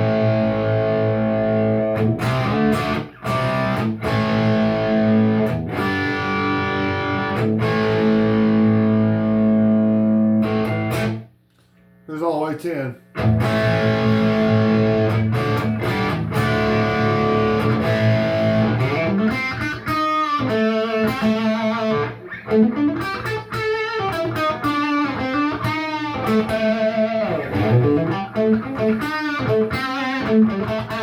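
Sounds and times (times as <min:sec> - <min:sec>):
overdriven electric guitar: 0:00.0 - 0:11.3, 0:13.2 - 0:31.0.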